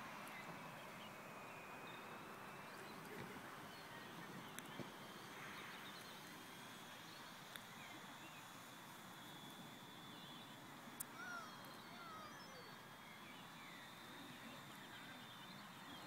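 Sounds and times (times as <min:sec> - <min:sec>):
steady hiss: 0:00.0 - 0:16.0
faint chirps: 0:00.2 - 0:16.0.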